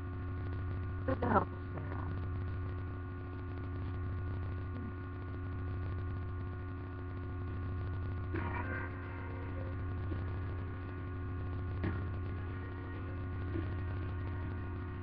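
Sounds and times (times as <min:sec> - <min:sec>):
electrical mains hum: 0:00.0 - 0:15.0
faint steady tones: 0:00.0 - 0:15.0.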